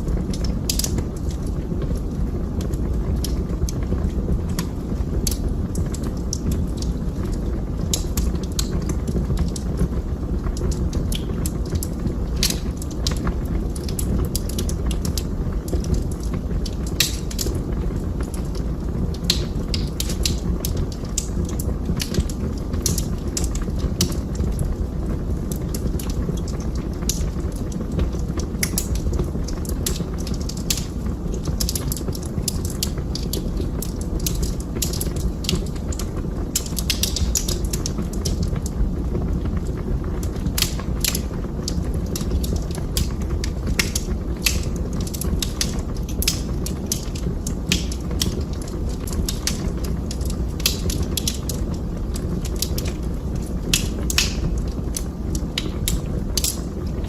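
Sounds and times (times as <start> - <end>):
burning wood crackling and popping: 0.0 - 57.0
fire flames rushing: 0.0 - 57.0.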